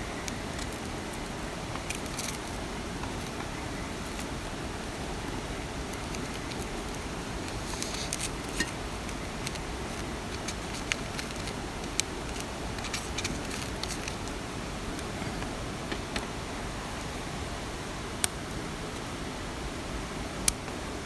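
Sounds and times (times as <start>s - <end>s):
rain hiss: 0.0s - 21.0s.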